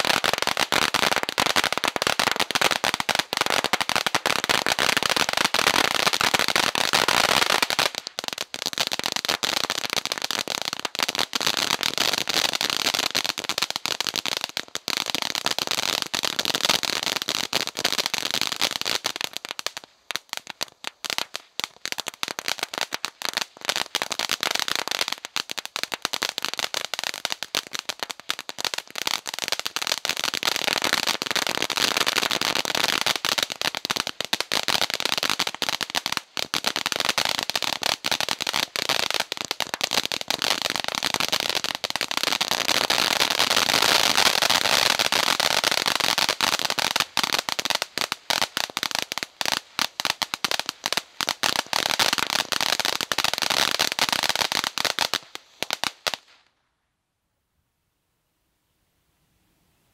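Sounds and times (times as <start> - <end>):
fireworks crackling: 0.0 - 56.6.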